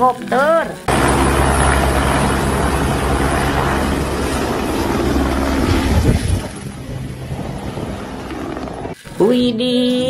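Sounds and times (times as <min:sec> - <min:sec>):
helicopter rotor and turbine noise: 0:00.9 - 0:09.0.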